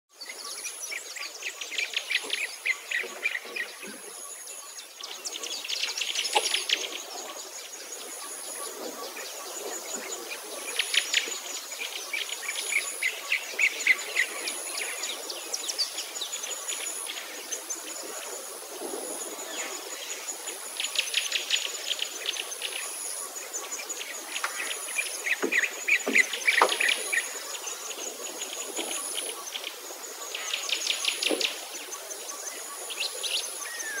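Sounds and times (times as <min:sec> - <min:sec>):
wild birds chirping and trilling: 0:00.1 - 0:34.0.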